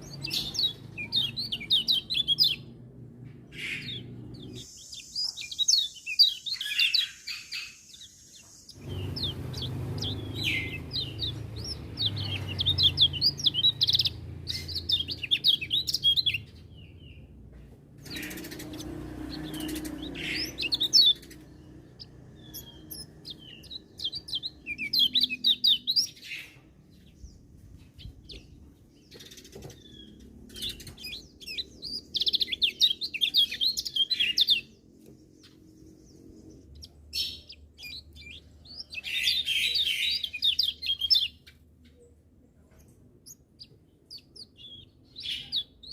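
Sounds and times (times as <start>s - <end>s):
bird twittering chirps: 0.0s - 2.8s, 3.5s - 17.3s, 18.0s - 41.6s, 43.2s - 45.9s.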